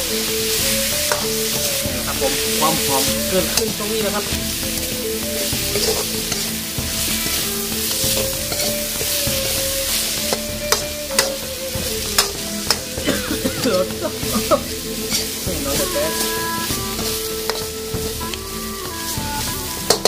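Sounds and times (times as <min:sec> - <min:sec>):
meat sizzling in a wok: 0:00.0 - 0:20.0
metal ladle scraping a pan: 0:00.0 - 0:20.0.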